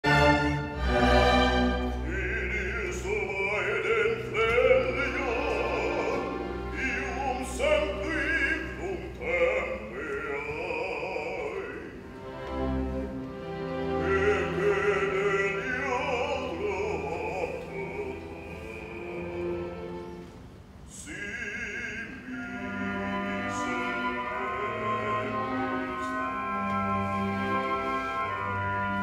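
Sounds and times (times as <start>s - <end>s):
orchestral accompaniment: 0.0s - 29.0s.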